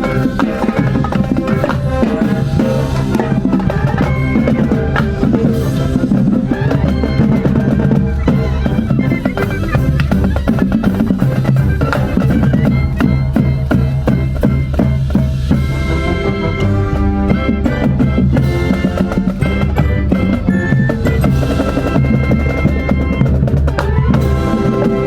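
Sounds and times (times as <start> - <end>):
brass notes: 0.0 - 25.0
snare and bass drums: 0.0 - 25.0.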